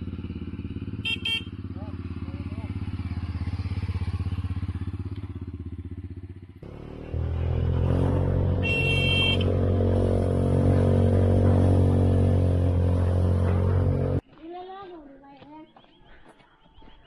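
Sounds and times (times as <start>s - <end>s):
three-wheeled motorcycle engine running: 0.0s - 14.3s.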